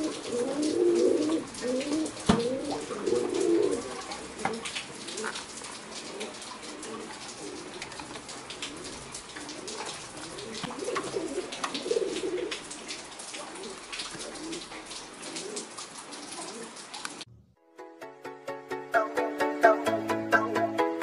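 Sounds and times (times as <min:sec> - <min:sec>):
pigeons cooing: 0:00.0 - 0:17.2.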